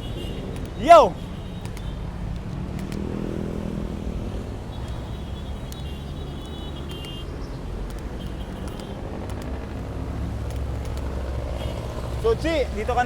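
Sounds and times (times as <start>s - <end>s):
scattered clicks: 0.0s - 3.6s, 4.6s - 12.9s
road traffic: 0.0s - 13.0s
vehicle engine humming: 0.0s - 13.0s.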